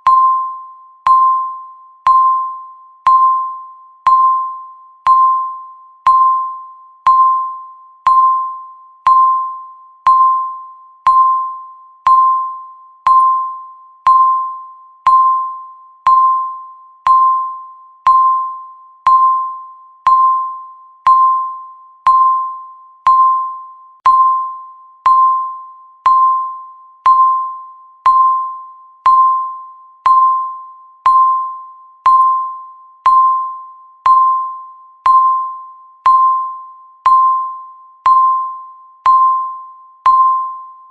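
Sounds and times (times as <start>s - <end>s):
timer ticking with bell-like pings: 0.0s - 40.9s.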